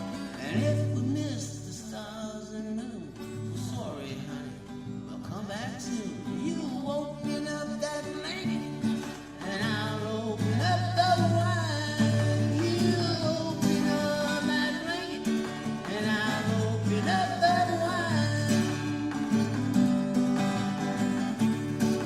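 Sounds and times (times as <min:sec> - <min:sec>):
person singing: 0:00.0 - 0:22.0
strummed acoustic guitar: 0:00.0 - 0:22.0.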